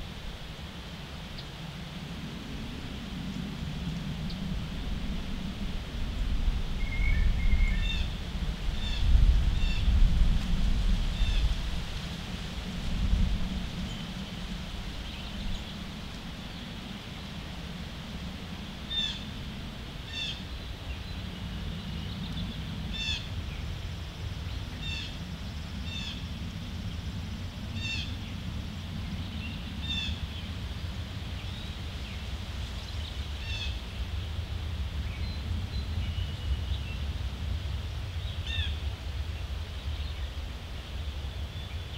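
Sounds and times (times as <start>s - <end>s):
steady low rumble: 0.0s - 41.9s.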